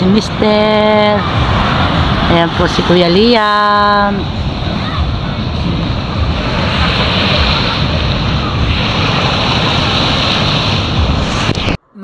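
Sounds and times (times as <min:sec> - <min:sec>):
surf washing onto beach: 0:00.0 - 0:11.8
wind buffeting microphone: 0:00.0 - 0:11.9.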